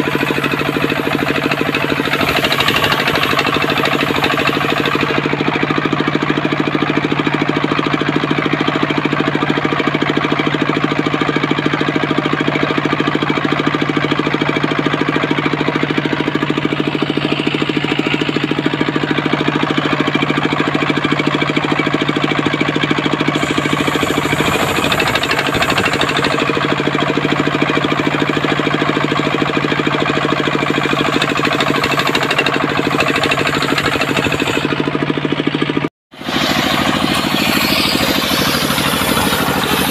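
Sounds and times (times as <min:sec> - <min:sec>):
sawmill engine knocking: 0:00.0 - 0:39.9.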